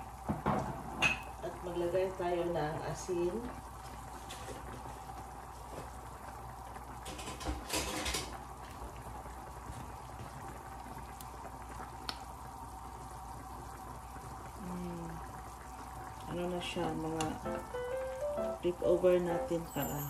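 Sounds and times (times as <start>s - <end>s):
pot bubbling on stove: 0.0s - 20.0s.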